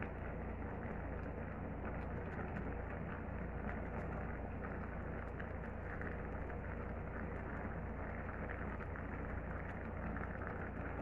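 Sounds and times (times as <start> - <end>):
sauce bubbling in a pot: 0.0 - 11.0.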